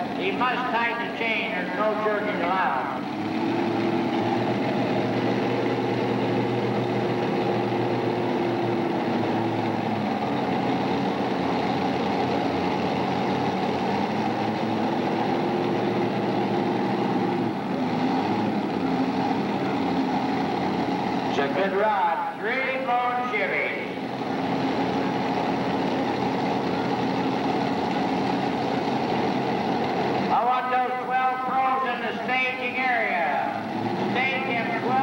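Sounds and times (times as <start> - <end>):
tractor engines running at low speed: 0.0 - 35.0.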